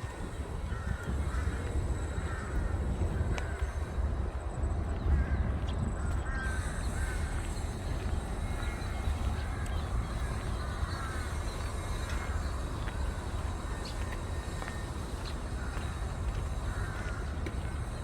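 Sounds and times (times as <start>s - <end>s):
birds calling: 0.0s - 18.0s
steady low rumble: 0.0s - 18.0s.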